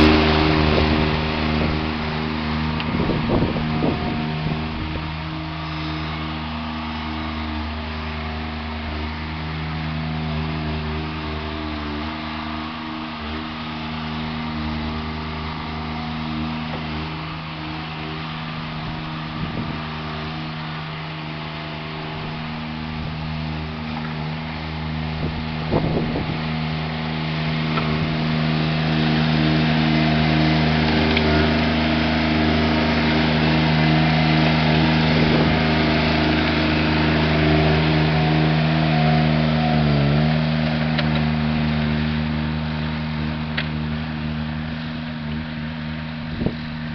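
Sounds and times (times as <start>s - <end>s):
small engine pushing snow: 0.0s - 46.9s.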